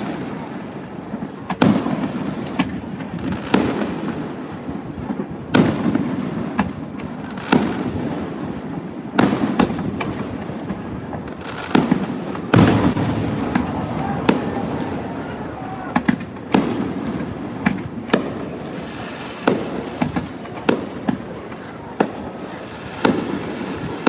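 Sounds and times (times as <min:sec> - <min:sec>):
firework booms with echo: 0:00.0 - 0:24.0
firework cracks: 0:00.0 - 0:24.0.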